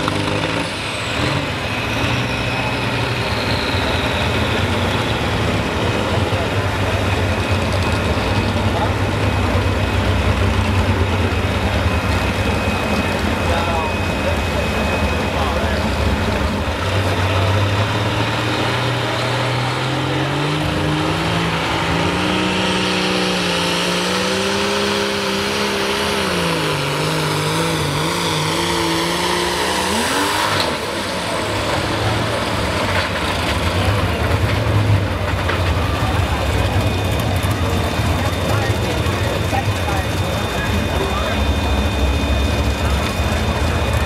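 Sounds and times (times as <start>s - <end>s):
diesel tractor engine roaring: 0.0s - 44.0s.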